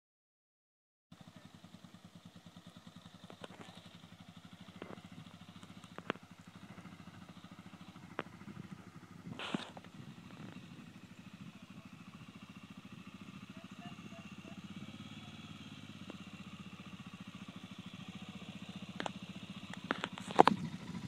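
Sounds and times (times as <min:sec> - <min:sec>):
quad bike engine running: 0:01.1 - 0:21.0.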